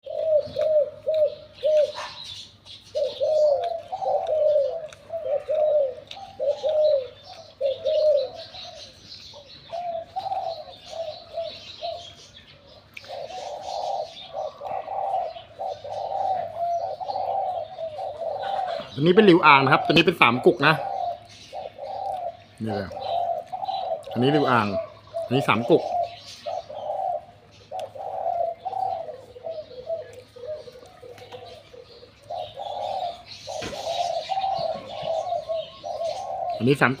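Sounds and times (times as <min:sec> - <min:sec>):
doves cooing: 0:00.0 - 0:37.0
small birds chirping: 0:00.0 - 0:37.0.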